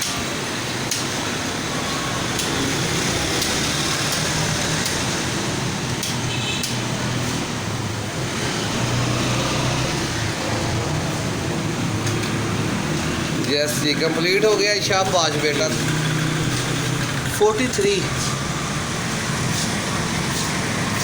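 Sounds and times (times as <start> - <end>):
fan whirring hum: 0.0 - 21.0.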